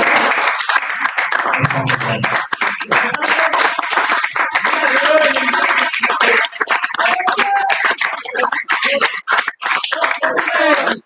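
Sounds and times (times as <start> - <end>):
audience clapping: 0.0 - 11.0
people's voices: 1.5 - 11.0.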